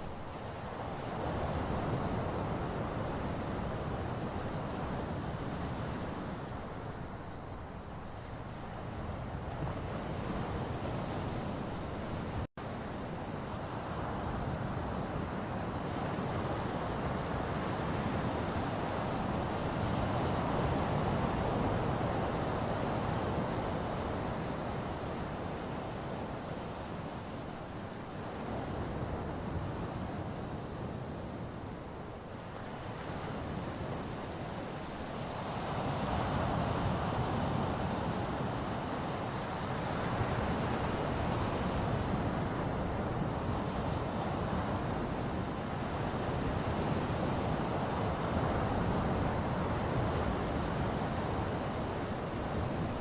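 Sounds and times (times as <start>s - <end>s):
ocean waves on shore: 0.0s - 53.0s.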